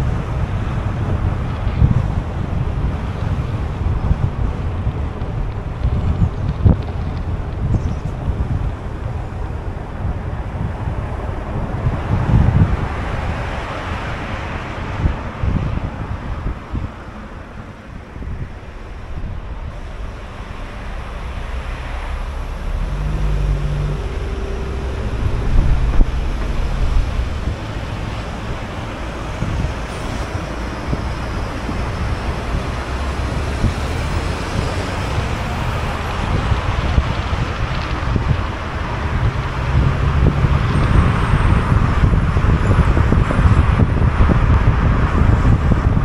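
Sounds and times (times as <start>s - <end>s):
car engine rumble: 0.0s - 46.0s
wind on microphone: 0.0s - 46.0s.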